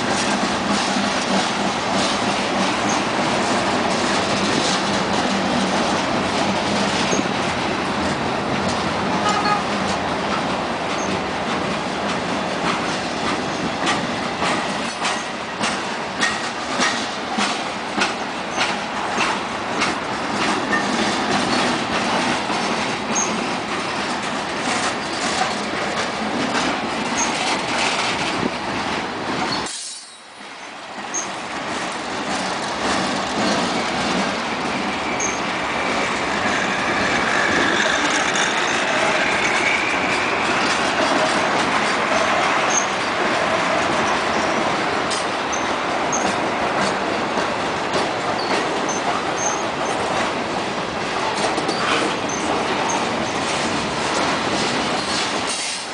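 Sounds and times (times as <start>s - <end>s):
train wheels clicking over rail joints: 0.0s - 55.9s.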